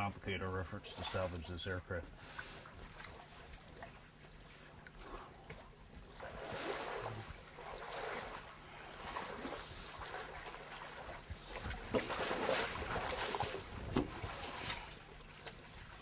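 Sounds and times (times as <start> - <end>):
people wading through water: 0.0 - 16.0.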